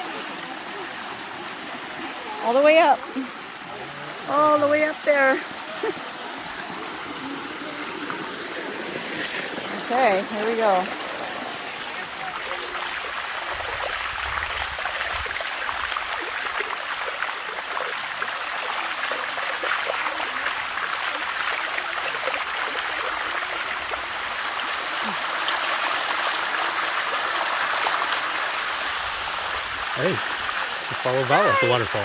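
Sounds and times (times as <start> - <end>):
water flowing down a cascade: 0.0 - 32.0.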